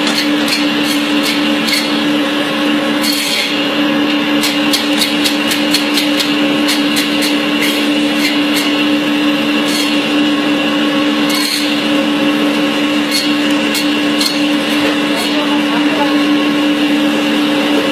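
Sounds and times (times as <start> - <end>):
cutting machine humming: 0.0 - 17.9.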